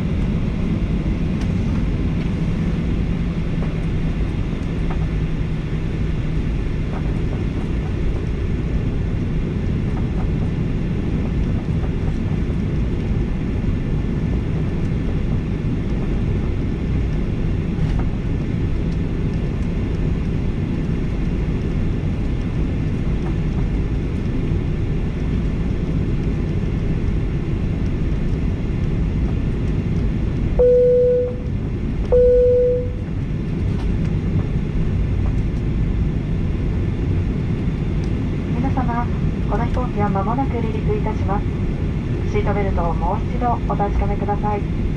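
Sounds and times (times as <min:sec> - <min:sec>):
airliner cabin engine rumble: 0:00.0 - 0:44.9.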